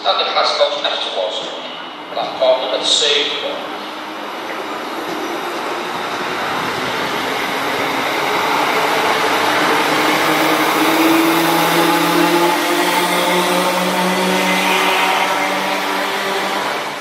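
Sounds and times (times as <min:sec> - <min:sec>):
train mechanical drone: 0:00.7 - 0:17.0.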